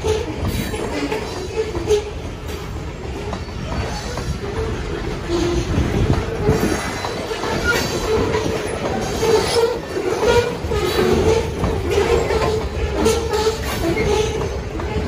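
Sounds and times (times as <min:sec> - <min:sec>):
train wheels rumbling and clacking: 0:00.0 - 0:15.0
wheel squeal on rail: 0:00.0 - 0:15.0.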